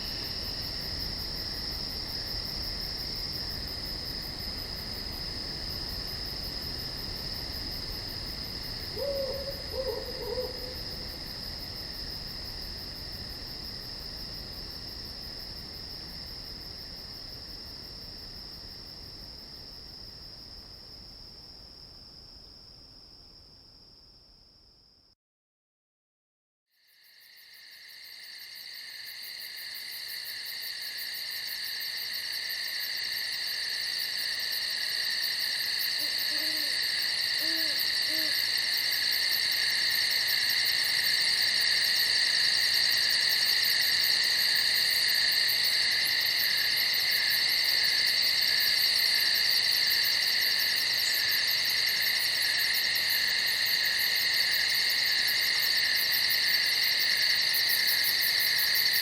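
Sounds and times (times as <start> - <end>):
crickets trilling: 0.0 - 21.2, 26.8 - 59.0.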